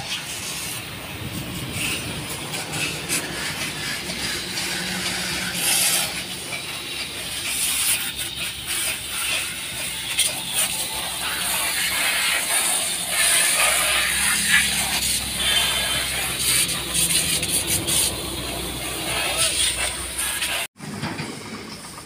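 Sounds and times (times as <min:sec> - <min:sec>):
pressure washer spraying water: 0:00.0 - 0:20.7.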